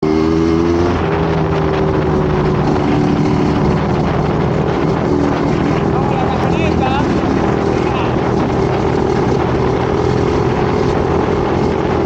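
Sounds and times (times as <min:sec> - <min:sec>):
dense rushing noise: 0:00.0 - 0:12.0
vehicle engine running: 0:00.0 - 0:12.0.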